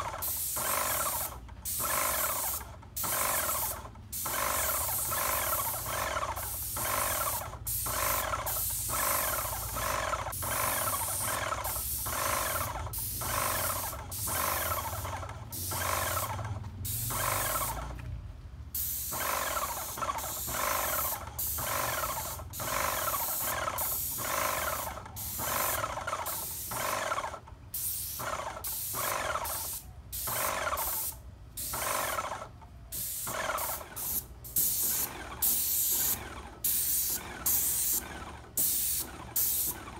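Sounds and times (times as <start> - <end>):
paint sprayer hissing bursts: 0.0 - 18.0, 18.7 - 39.9.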